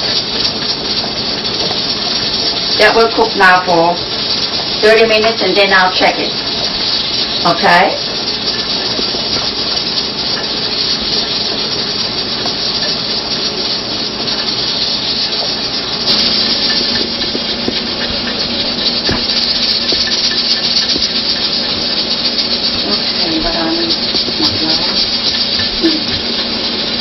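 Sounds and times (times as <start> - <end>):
steam hissing from cookware: 0.0 - 27.0.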